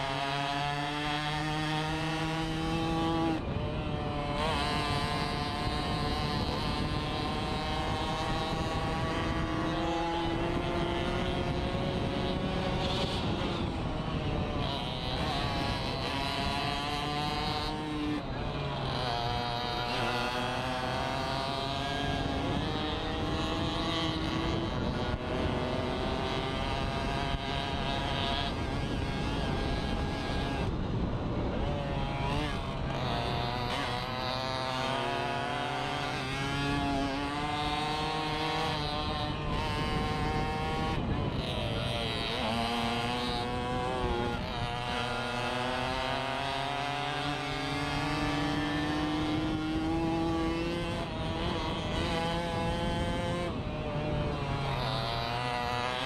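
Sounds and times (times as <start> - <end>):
two-stroke moped engine revving: 0.0 - 56.0.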